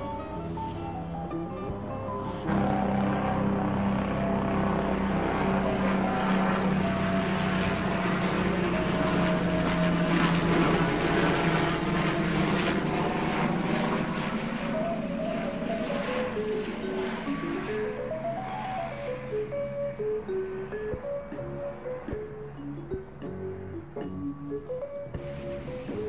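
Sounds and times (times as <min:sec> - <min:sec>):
propeller aircraft droning overhead: 0:00.0 - 0:26.0.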